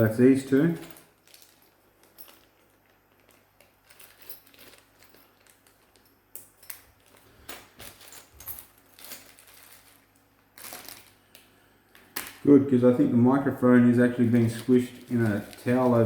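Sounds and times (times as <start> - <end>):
plastic packaging rustling: 0.6 - 6.2, 6.8 - 12.5, 14.0 - 16.0.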